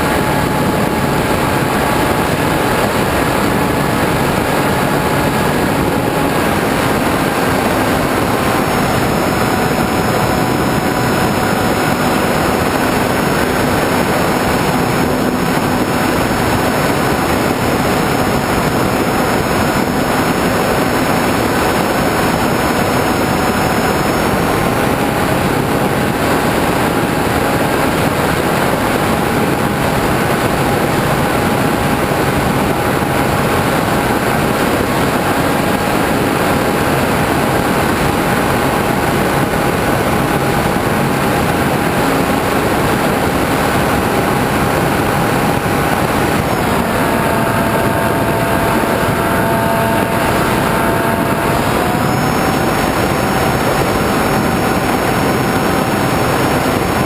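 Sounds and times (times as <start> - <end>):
loud wind rush: 0.0 - 57.0
model airplane propeller motor: 0.0 - 57.0.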